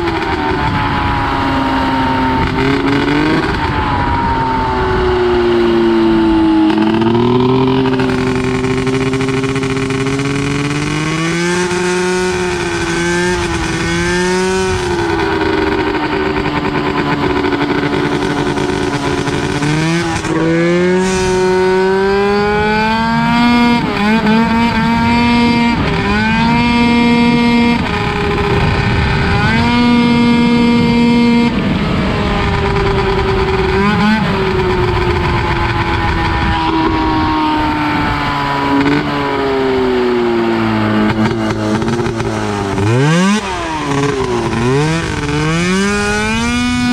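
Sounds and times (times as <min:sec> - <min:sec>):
two-stroke kart engine revving: 0:00.0 - 0:46.9.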